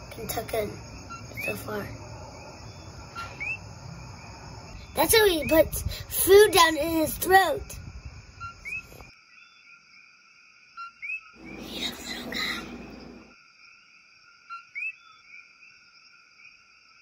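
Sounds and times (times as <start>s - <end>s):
frogs and insects chorus: 0.0s - 17.0s.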